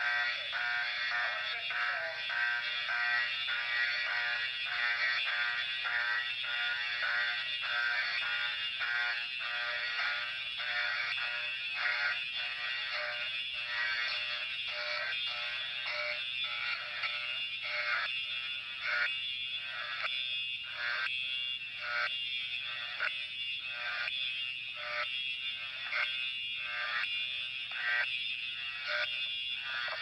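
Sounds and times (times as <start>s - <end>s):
fire alarm horn buzzing: 0.0s - 30.0s.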